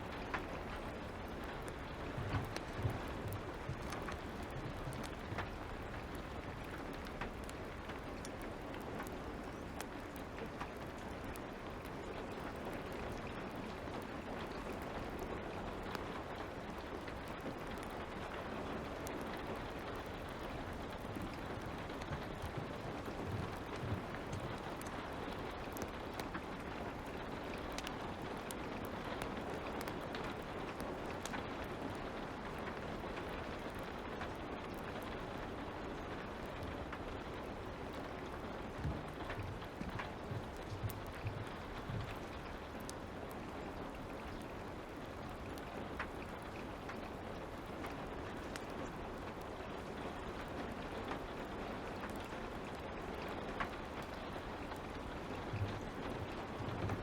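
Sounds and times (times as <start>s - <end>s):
fire crackling: 0.0s - 57.0s
light rain falling: 0.0s - 57.0s.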